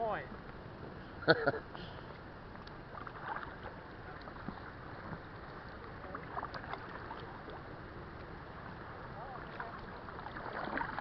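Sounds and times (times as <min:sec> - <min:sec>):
paddle splashes and drips: 0:02.0 - 0:11.0.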